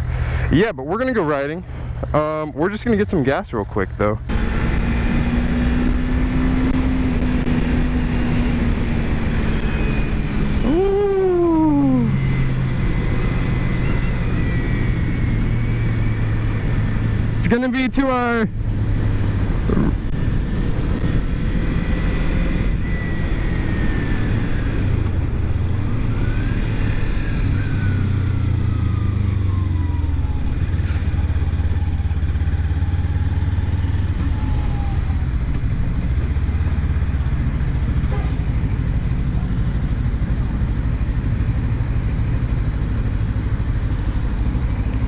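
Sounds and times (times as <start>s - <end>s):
wind and road noise: 0.0s - 45.0s
motorcycle engine running: 4.1s - 17.4s, 18.1s - 45.0s.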